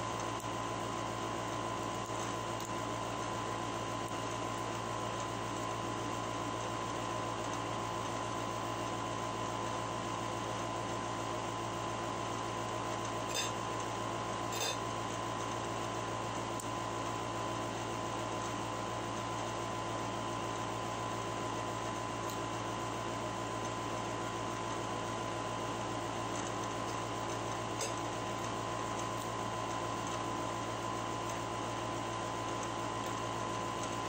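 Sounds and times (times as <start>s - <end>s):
room hum: 0.0s - 34.0s.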